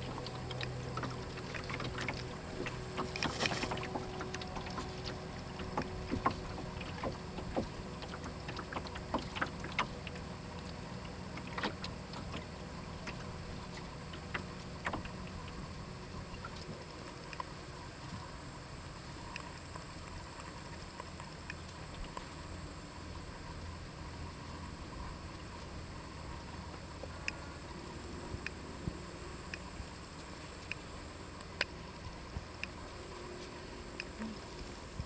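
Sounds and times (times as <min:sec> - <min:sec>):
small ticks and knocks: 0:00.0 - 0:18.4, 0:19.0 - 0:22.6, 0:25.0 - 0:35.0
faint low hum: 0:00.0 - 0:35.0
water lapping against boat hull: 0:00.0 - 0:35.0.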